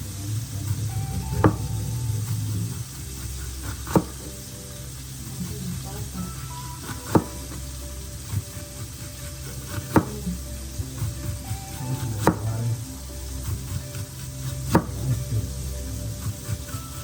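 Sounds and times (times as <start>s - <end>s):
food sizzling in a pan: 0.0s - 17.0s
soft background music: 0.0s - 17.0s.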